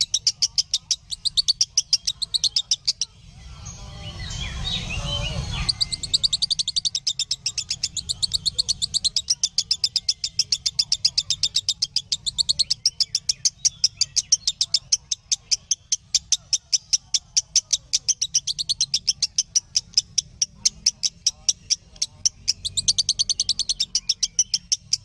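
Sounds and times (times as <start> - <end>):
lovebird trilling chirps: 0.0 - 25.0.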